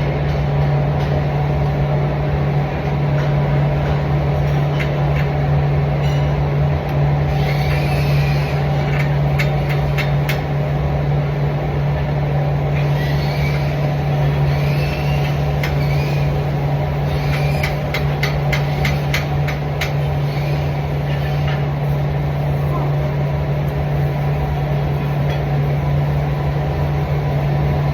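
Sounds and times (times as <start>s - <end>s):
low machine hum: 0.0s - 27.9s.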